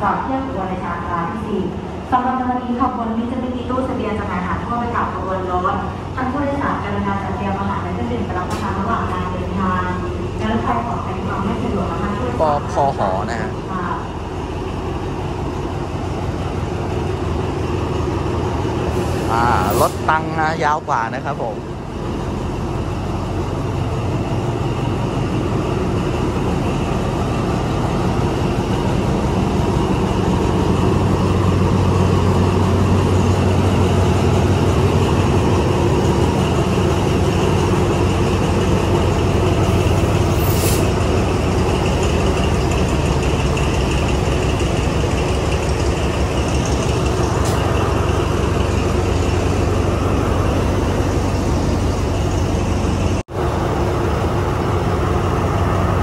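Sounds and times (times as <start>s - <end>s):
locomotive engine idling: 1.4s - 56.0s.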